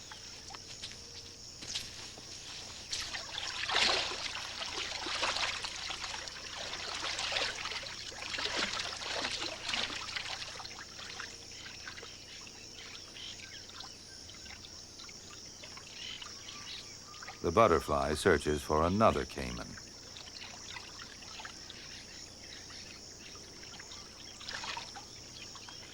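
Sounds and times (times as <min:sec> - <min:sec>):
water splashing and trickling: 0:00.2 - 0:16.6, 0:17.2 - 0:25.9.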